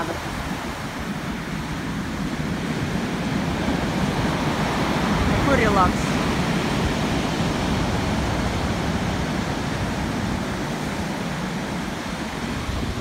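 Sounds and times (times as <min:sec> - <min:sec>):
large waves breaking: 0:00.0 - 0:13.0.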